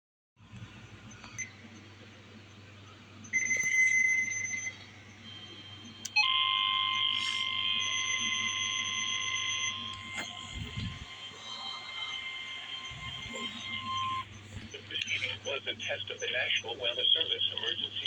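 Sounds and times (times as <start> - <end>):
faint hiss and hum: 0.4 - 18.0
steady alarm tone: 3.3 - 18.0.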